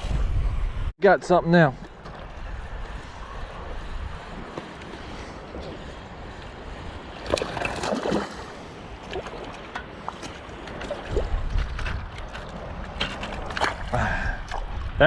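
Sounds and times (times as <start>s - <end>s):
wind rumble on microphone: 0.0s - 15.0s
water splashing and sloshing: 1.6s - 15.0s.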